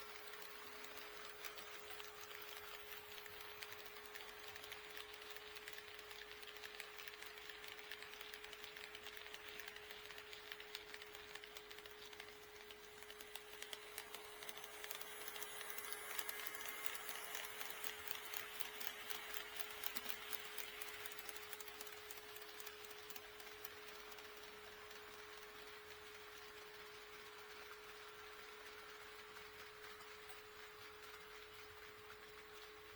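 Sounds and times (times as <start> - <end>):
model train wheels clicking: 0.0 - 32.9.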